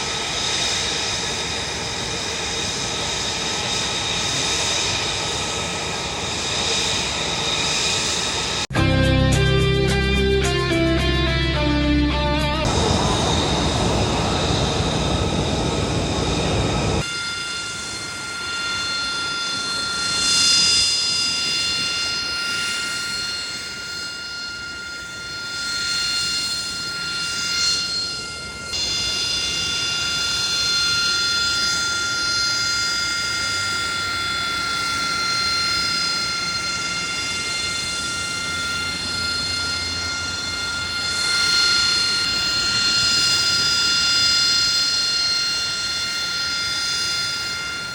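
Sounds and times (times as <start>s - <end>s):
aircraft engines roaring: 0.0s - 47.9s
high-pitched jet whine: 0.0s - 47.9s.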